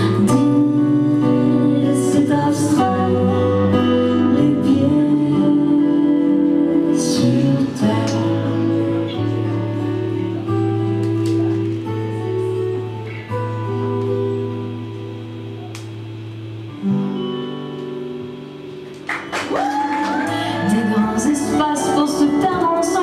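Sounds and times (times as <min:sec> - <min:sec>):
electric guitar strummed chords: 0:00.0 - 0:23.0.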